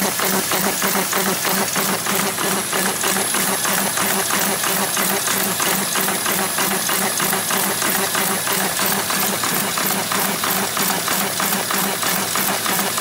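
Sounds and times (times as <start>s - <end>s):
rhythmic machine clatter: 0.0s - 13.0s.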